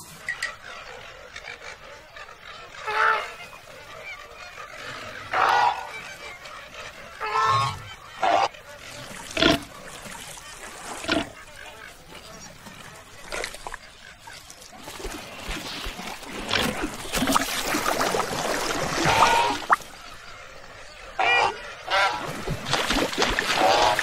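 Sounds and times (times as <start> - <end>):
flamingos honking: 0.1 - 14.4, 15.1 - 22.4, 23.5 - 24.0.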